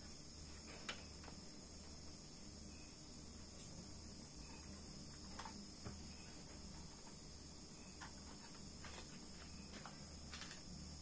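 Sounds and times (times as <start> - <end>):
high-pitched hiss: 0.0 - 11.0
steady low hum: 0.0 - 11.0.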